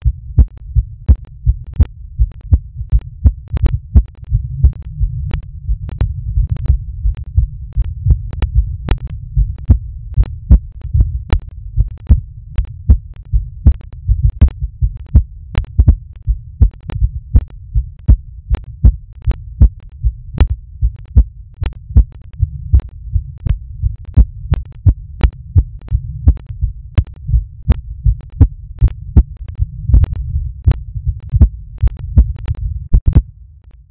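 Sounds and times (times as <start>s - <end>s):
muffled heartbeat thumps: 0.0s - 33.3s
sharp clicks: 0.0s - 33.8s
steady low rumble: 0.0s - 33.9s.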